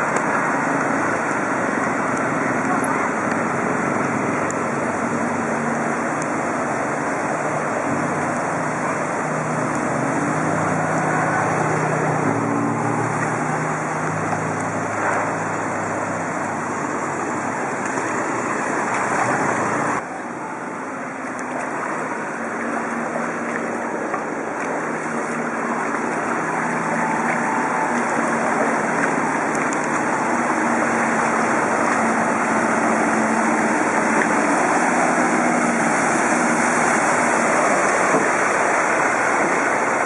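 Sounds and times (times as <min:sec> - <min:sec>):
bicycle wheels swishing through water: 0:00.0 - 0:40.0.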